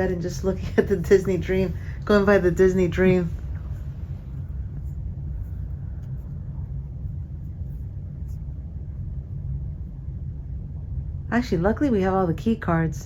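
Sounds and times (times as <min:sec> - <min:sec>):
low rumble of ship: 0:00.0 - 0:13.0.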